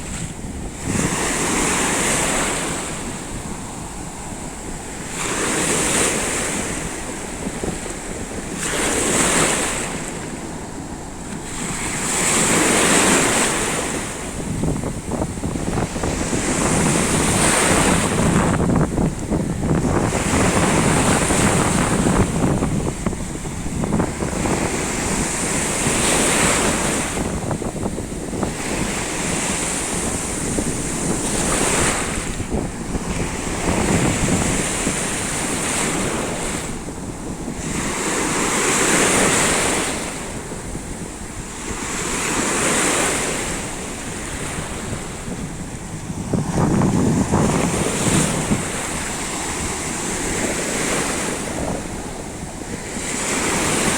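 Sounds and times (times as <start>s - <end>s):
sea waves washing on shore: 0.0s - 53.9s
wind buffeting microphone: 0.0s - 53.9s.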